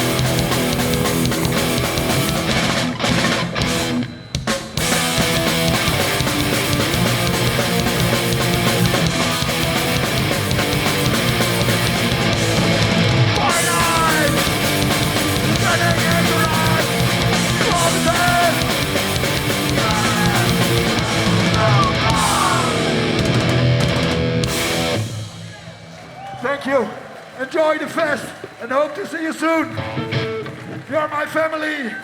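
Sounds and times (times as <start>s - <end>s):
punk band playing live: 0.0s - 25.8s.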